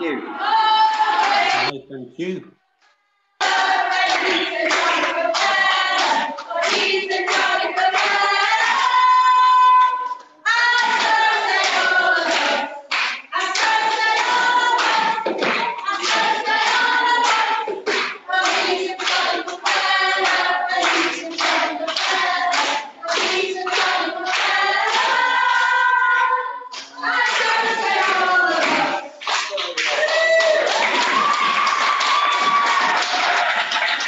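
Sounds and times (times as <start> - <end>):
group of voices singing: 0.0 - 1.8, 3.4 - 32.6
hand clapping: 3.4 - 8.9, 10.1 - 25.8, 26.7 - 34.0.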